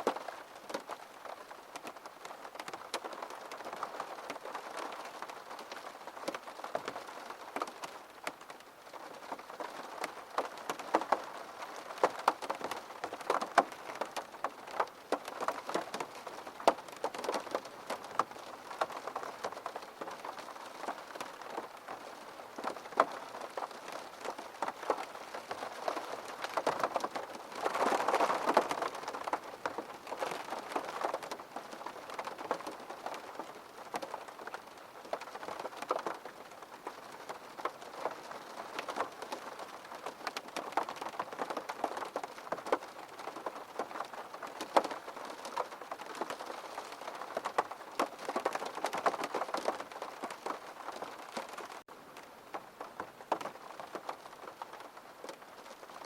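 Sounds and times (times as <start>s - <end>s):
rain falling: 0.0s - 56.0s
raindrops tapping on hard surface: 1.7s - 51.9s, 52.5s - 56.0s.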